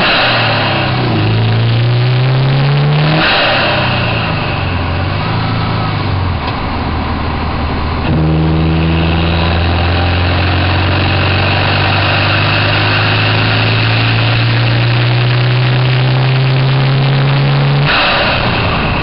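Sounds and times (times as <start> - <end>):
turbocharged car engine running: 0.0 - 19.0.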